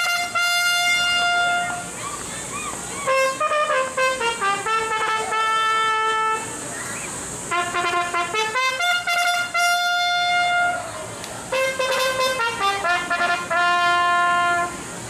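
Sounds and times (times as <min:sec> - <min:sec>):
symphonic ensemble with brass playing: 0:00.0 - 0:02.0, 0:03.0 - 0:06.7, 0:07.5 - 0:14.8.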